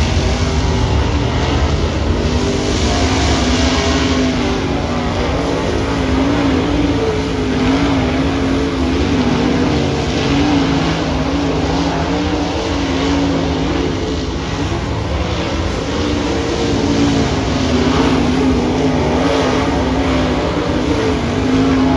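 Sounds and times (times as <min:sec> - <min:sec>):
race car engines passing: 0:00.0 - 0:21.9.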